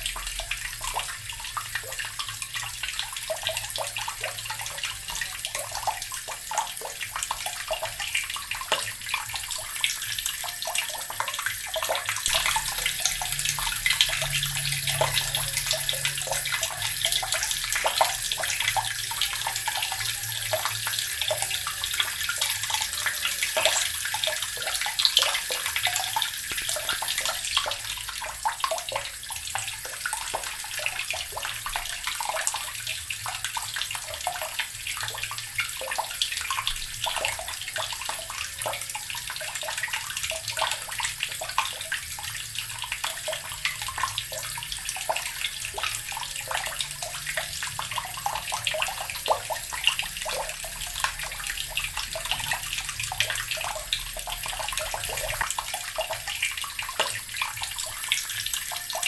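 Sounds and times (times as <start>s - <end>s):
tap water splashing into basin: 0.0s - 59.0s.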